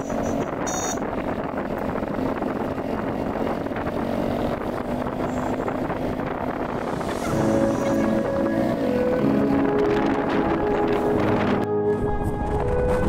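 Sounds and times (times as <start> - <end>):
motorcycle engine running: 0.0 - 11.5
wind buffeting microphone: 0.0 - 13.0.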